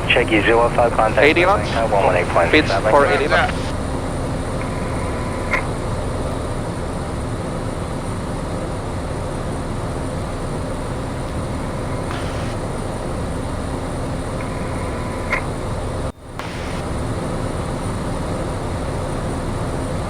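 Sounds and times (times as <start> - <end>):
light aircraft engine drone: 0.0 - 20.0.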